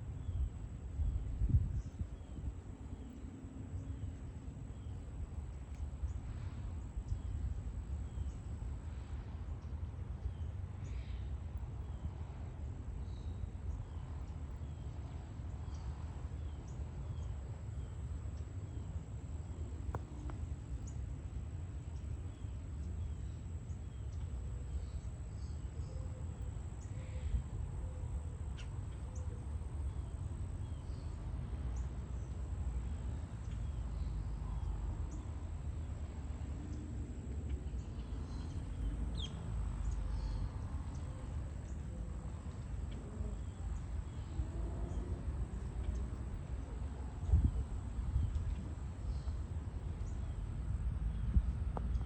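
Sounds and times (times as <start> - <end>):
low steady rumble: 0.0 - 52.0.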